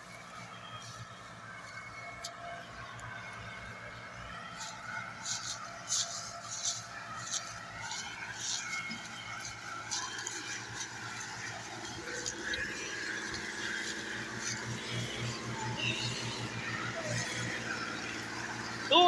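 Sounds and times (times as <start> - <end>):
tractor diesel engines: 0.0 - 19.0.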